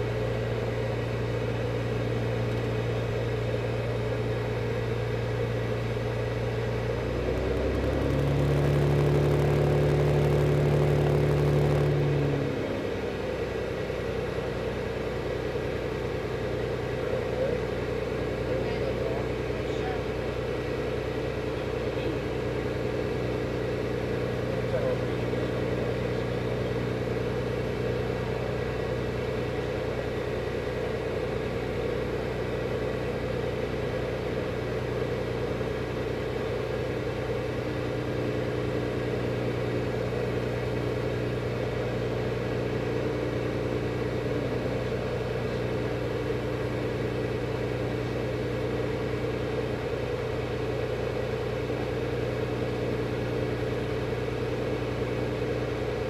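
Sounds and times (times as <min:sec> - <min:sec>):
light aircraft engine idling: 0:00.0 - 0:08.5, 0:11.9 - 0:56.0.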